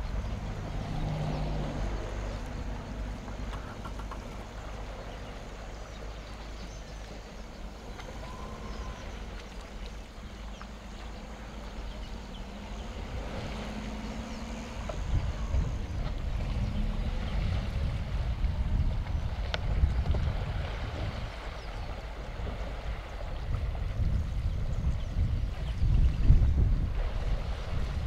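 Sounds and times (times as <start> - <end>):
steady low rumble: 0.0 - 28.0
water splashing and sloshing: 0.0 - 28.0.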